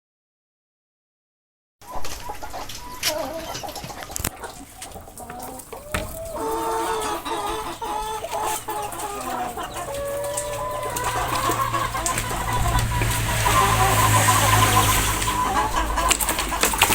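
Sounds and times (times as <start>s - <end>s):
chickens clucking: 1.8s - 16.9s.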